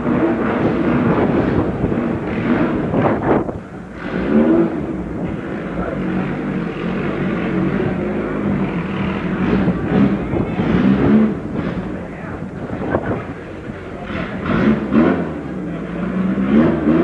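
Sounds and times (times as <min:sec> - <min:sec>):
racing car engine revving: 0:00.0 - 0:17.0.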